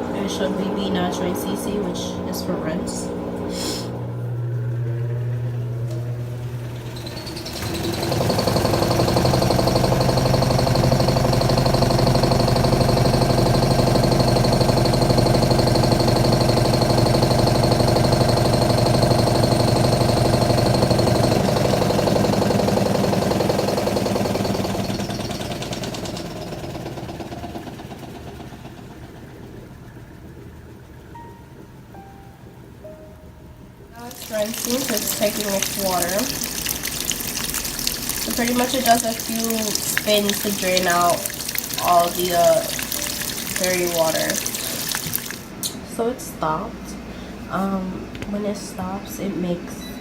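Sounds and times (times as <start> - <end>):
washing machine spinning: 0.0 - 50.0.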